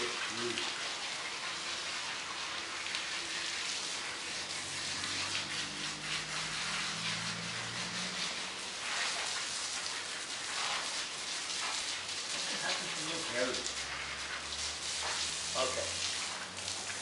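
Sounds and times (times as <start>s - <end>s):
hose spraying water: 0.0s - 17.0s.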